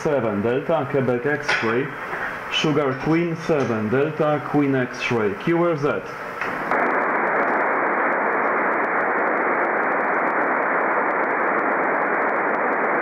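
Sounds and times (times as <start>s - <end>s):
receiver hiss: 0.0s - 13.0s.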